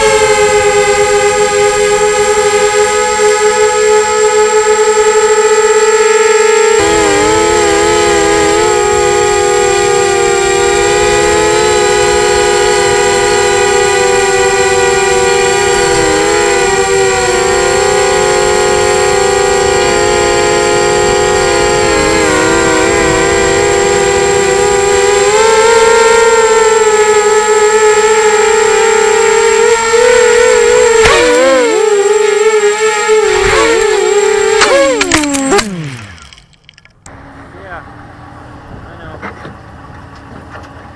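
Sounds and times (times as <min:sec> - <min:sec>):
drone propellers whining: 0:00.0 - 0:40.9.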